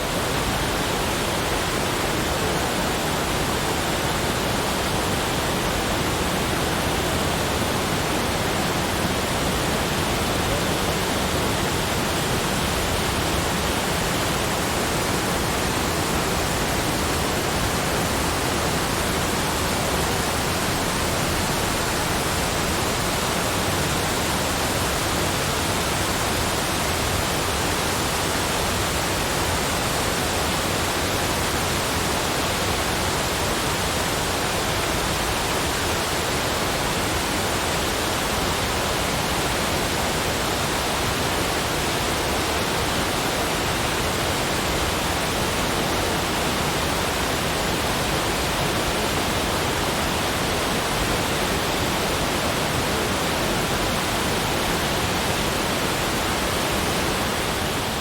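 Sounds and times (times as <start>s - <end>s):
running water rushing: 0.0s - 58.0s.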